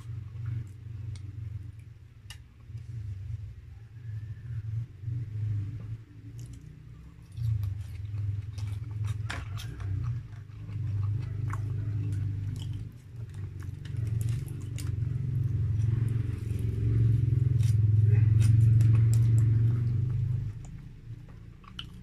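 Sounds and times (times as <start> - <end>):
biting and chewing food: 0.0 - 3.4, 5.2 - 22.0.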